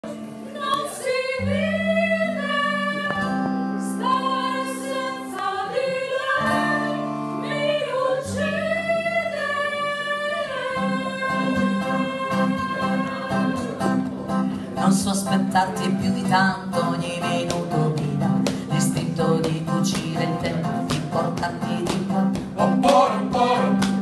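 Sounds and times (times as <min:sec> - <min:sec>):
acoustic guitar: 0:00.0 - 0:24.0
vocal group singing in harmony: 0:00.2 - 0:24.0.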